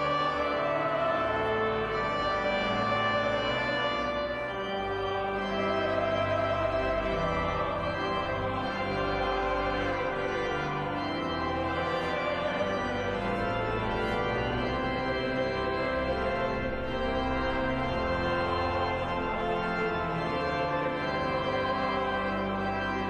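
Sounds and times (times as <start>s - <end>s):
organ chords: 0.0s - 23.0s.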